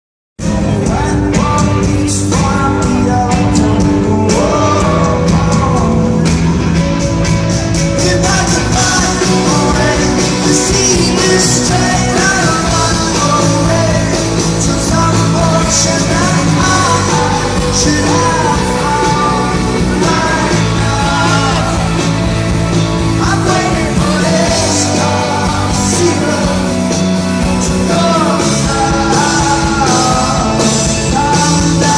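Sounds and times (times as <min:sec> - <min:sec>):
person singing: 0:00.4 - 0:06.9, 0:07.6 - 0:31.9
drums: 0:00.4 - 0:31.9
rock music: 0:00.4 - 0:31.9.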